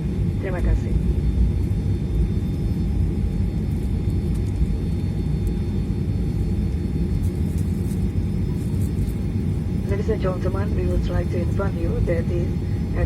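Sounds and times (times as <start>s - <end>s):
faint steady whine: 0.0s - 13.0s
jet engines rumbling in cabin: 0.0s - 13.0s.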